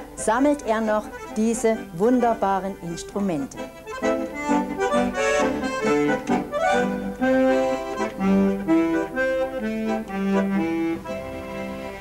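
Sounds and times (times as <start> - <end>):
bandoneon playing: 0.0 - 12.0.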